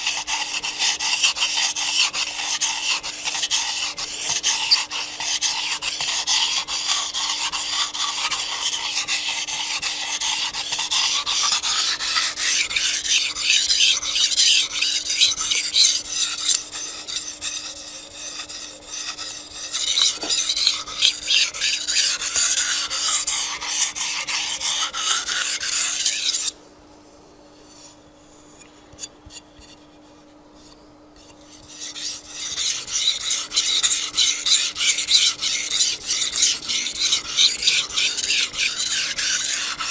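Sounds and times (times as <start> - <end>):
knife scraping on whetstone: 0.0 - 26.6, 27.6 - 39.9.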